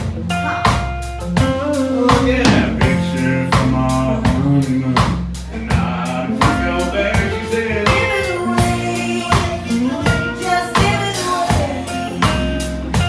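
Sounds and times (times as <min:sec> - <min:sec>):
acoustic guitar: 0:00.0 - 0:13.0
bass guitar: 0:00.0 - 0:13.0
drum kit steady beat: 0:00.0 - 0:13.0.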